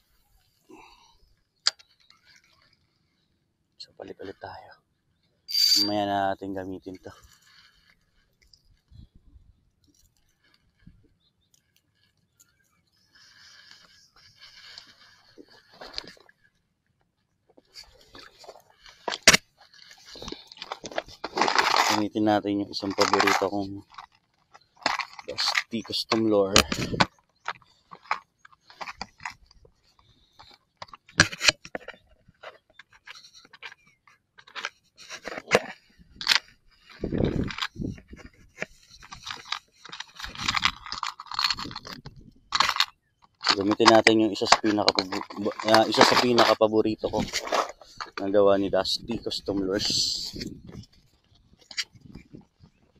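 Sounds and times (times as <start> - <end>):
fishing tackle clicks and rustles: 0.0 - 3.3, 5.5 - 52.9.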